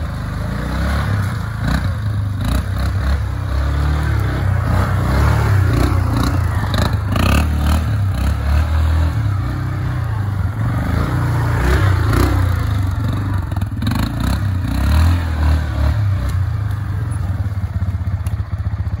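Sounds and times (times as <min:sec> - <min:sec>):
quad engine revving: 0:00.0 - 0:19.0
tyres churning through snow and mud: 0:00.0 - 0:19.0.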